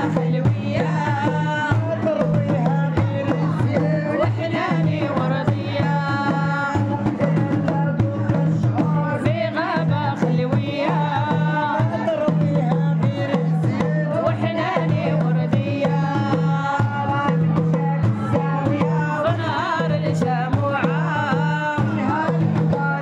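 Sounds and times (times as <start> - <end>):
hand drums beating: 0.0 - 23.0
sung chant: 0.0 - 23.0.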